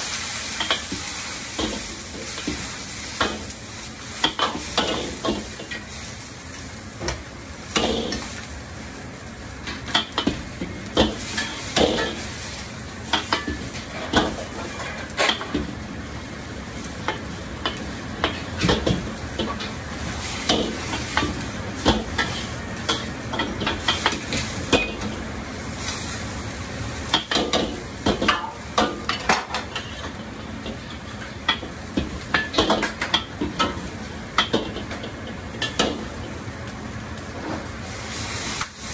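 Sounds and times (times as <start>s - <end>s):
ladle clanking and scraping wok: 0.0s - 6.3s, 7.0s - 8.5s, 9.6s - 15.8s, 16.8s - 26.2s, 27.0s - 36.4s
food sizzling in wok: 0.0s - 38.9s.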